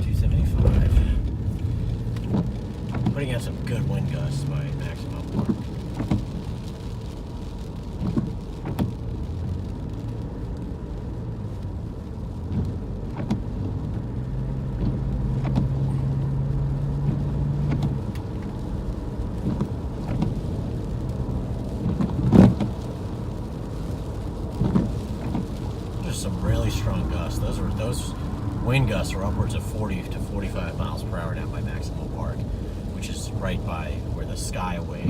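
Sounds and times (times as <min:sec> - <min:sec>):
road and engine rumble: 0:00.0 - 0:35.0
wind gusts buffeting car: 0:00.0 - 0:35.0.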